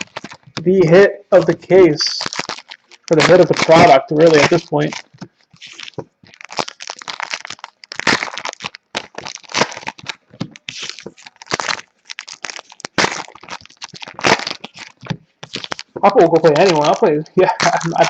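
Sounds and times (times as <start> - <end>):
card pack wrappers crinkling: 0.0 - 18.0.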